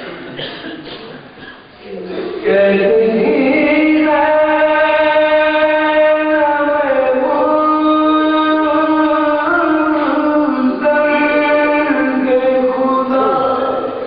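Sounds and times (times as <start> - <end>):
man singing mourning elegy: 2.4 - 14.0.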